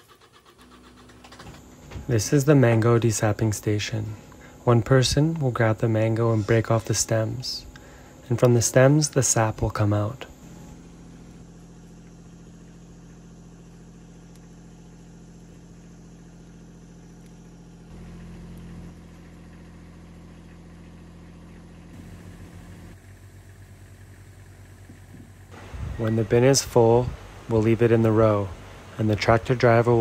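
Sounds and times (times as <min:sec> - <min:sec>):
machinery engine idling: 0:00.0 - 0:30.0
tractor engine idling: 0:00.0 - 0:30.0.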